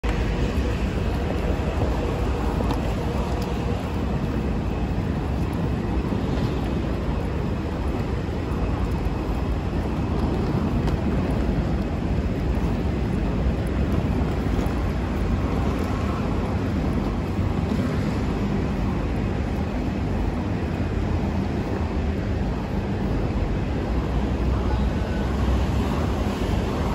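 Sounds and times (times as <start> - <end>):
airport ambience: 0.0 - 26.9
road traffic rumble: 0.0 - 26.9.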